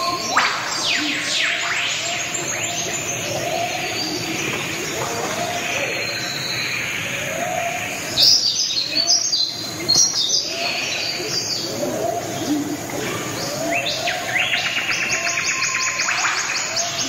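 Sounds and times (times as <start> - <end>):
birds sharp high chirps: 0.0 - 17.0.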